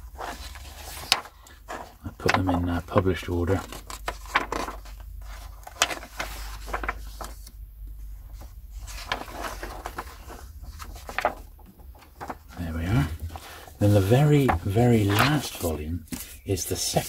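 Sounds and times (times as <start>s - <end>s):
books sliding and scraping: 0.0s - 7.5s, 8.3s - 17.0s.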